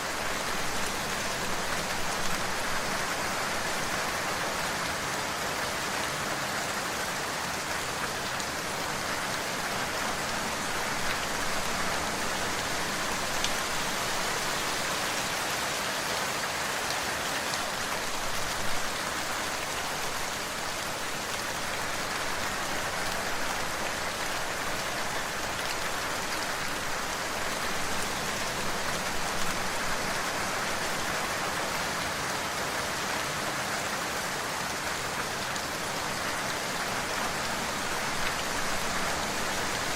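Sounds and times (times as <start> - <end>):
individual raindrops: 0.0 - 39.9
steady rain falling: 0.0 - 39.9.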